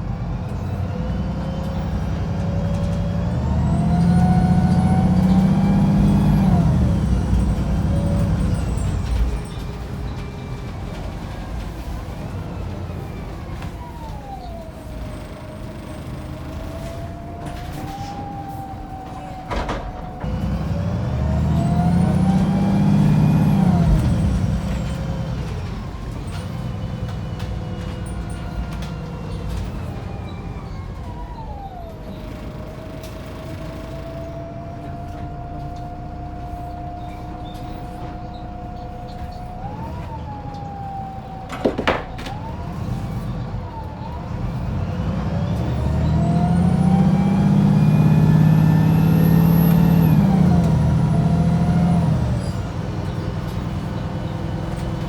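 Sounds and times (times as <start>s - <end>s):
bus diesel engine pulling hard: 0.0s - 55.0s.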